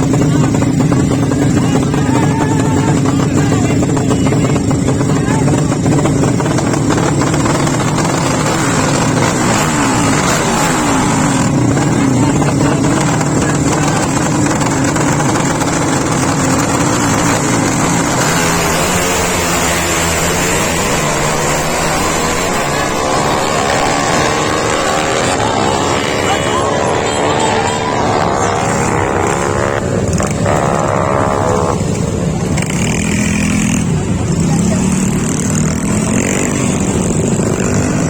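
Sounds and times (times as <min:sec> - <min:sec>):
engine running loud: 0:00.0 - 0:38.0.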